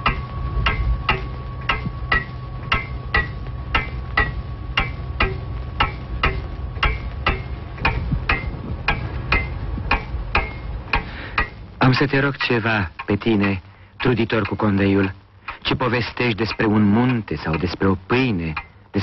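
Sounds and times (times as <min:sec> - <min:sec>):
clock ticking: 0:00.0 - 0:19.0
low steady hum: 0:00.0 - 0:19.0.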